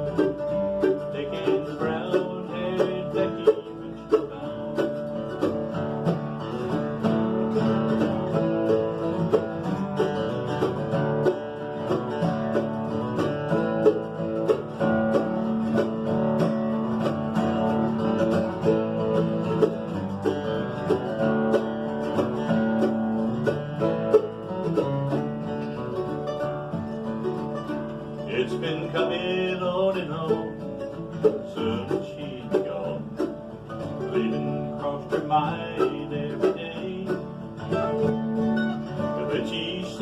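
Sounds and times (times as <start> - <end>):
acoustic guitar picking: 0.0 - 40.0
banjo picking: 0.0 - 40.0.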